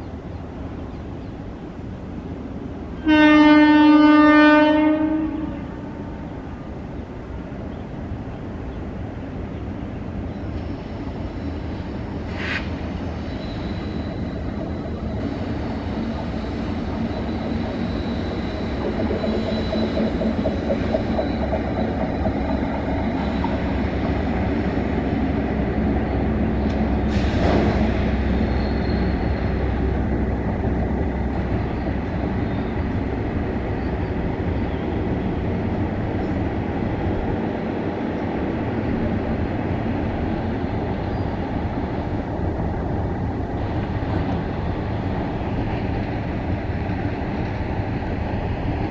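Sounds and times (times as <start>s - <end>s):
freight train rumbling on tracks: 0.0s - 48.9s.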